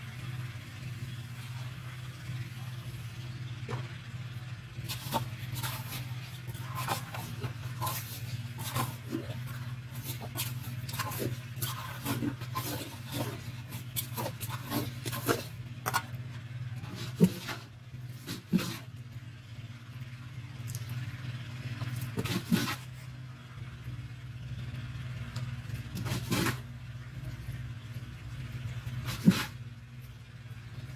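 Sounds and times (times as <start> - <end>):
low machine hum: 0.0 - 30.9.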